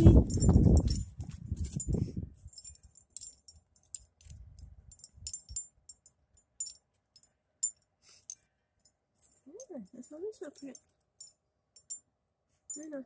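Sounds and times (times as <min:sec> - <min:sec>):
metallic jingling: 0:00.0 - 0:12.1, 0:12.7 - 0:13.0.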